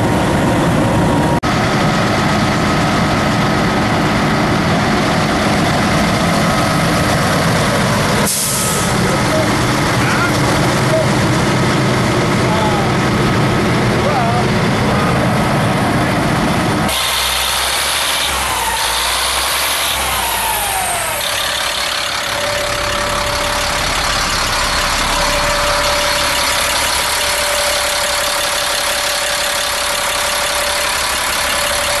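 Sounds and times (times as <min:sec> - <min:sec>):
truck diesel engine running: 0:00.0 - 0:32.0
whine: 0:00.0 - 0:32.0.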